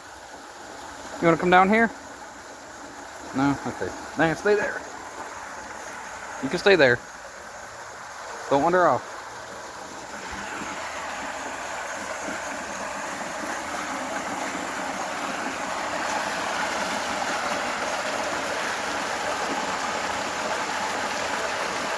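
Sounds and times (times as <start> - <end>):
creek water rushing: 0.0 - 21.9.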